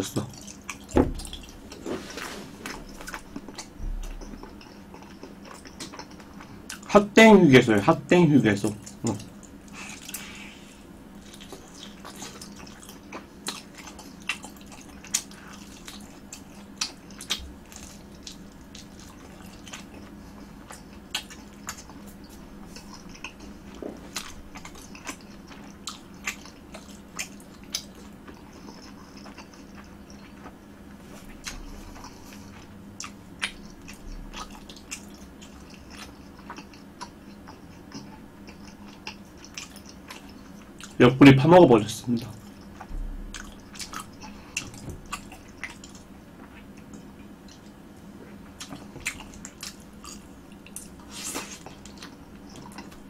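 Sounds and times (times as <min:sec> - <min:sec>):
chewing and biting: 0:00.2 - 0:06.9, 0:11.1 - 0:41.0, 0:42.3 - 0:47.8, 0:48.4 - 0:53.0.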